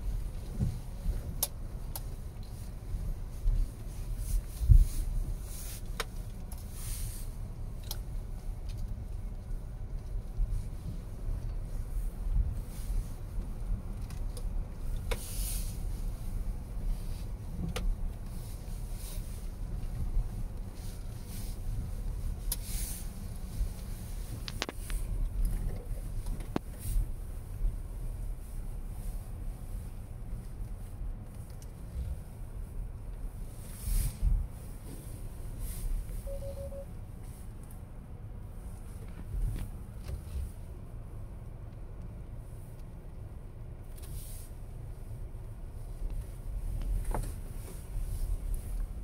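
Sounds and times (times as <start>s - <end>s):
low rumble inside car cabin: 0.0s - 49.0s.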